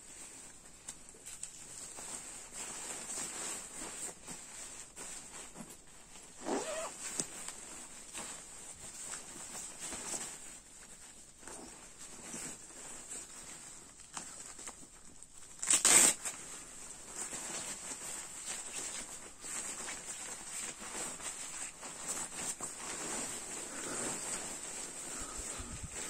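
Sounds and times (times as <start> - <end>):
sleeping bag fabric rustling: 0.0 - 26.0.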